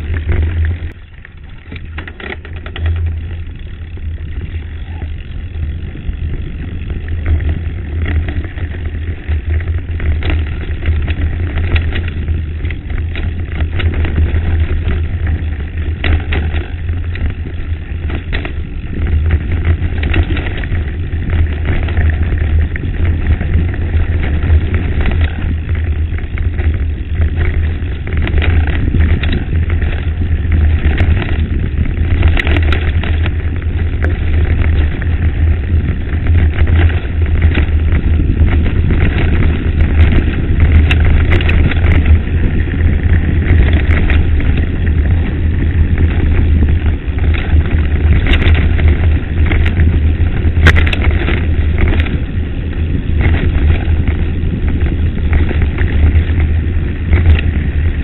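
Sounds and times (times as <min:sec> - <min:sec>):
mountain bike rattling on gravel: 0:00.0 - 0:58.0
wind buffeting microphone: 0:00.0 - 0:58.0.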